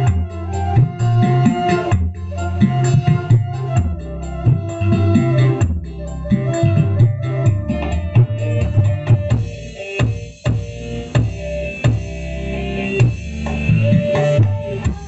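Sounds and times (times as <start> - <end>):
bass-heavy song over speakers: 0.0 - 15.0.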